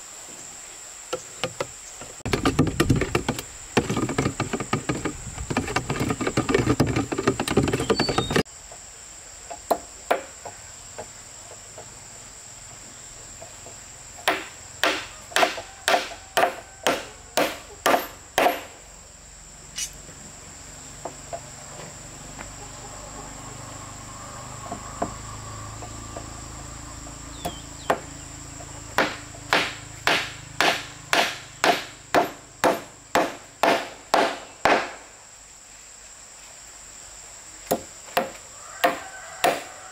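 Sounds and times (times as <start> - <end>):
insect high-pitched trill: 0.0 - 39.9.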